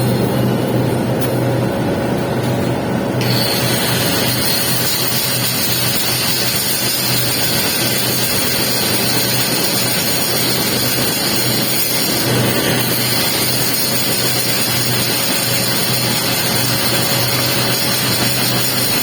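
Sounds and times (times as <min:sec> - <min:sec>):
welding arc crackling: 0:03.2 - 0:19.0.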